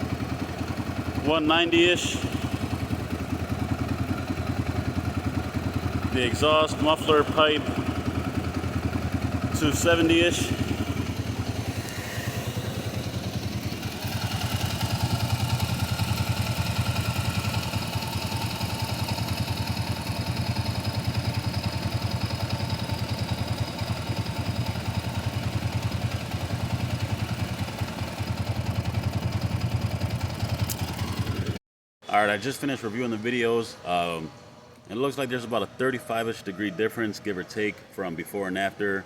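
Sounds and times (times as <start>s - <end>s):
engine idling chugging: 0.0s - 31.6s.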